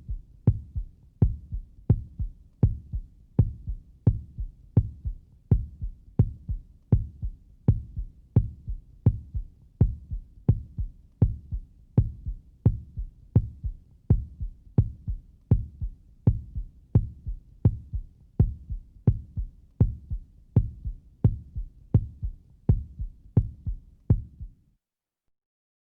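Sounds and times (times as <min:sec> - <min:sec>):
human heartbeat: 0:00.0 - 0:24.5.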